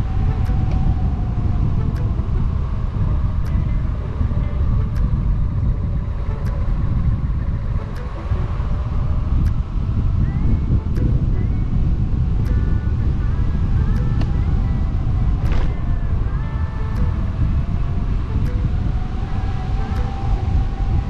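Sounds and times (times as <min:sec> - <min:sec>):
faint electric motor whine: 0:00.0 - 0:21.0
tyre and road noise: 0:00.0 - 0:21.0
wind buffeting microphone: 0:00.0 - 0:21.0.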